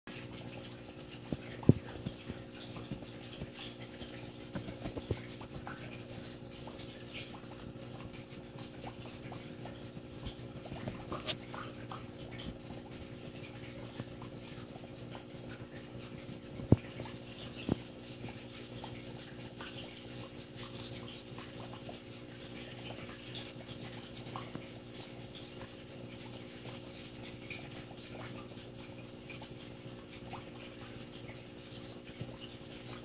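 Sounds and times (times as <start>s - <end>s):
aquarium pump humming: 0.1s - 33.0s.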